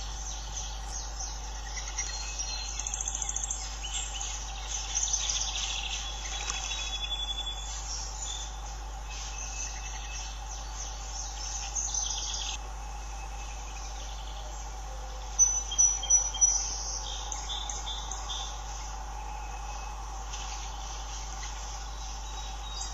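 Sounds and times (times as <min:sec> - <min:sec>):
insects buzzing: 0:00.0 - 0:22.9
loud bird chirps: 0:00.0 - 0:22.9
low steady hum: 0:00.0 - 0:22.9
songbirds chirping: 0:00.0 - 0:22.9.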